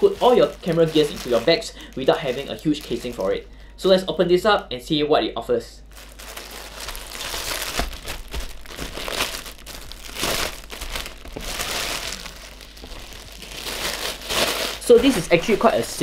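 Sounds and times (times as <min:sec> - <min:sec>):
plastic bag crinkling: 0:00.0 - 0:03.5, 0:05.9 - 0:16.0.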